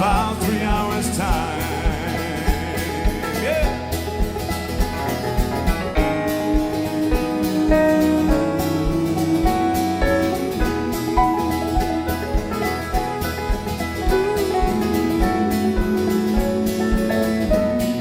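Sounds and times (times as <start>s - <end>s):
country band playing instrumental: 0.0s - 18.0s.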